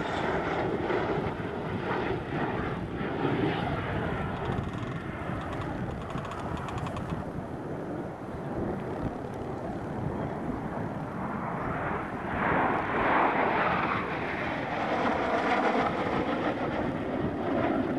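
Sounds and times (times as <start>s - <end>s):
jet engine roar: 0.0s - 17.9s.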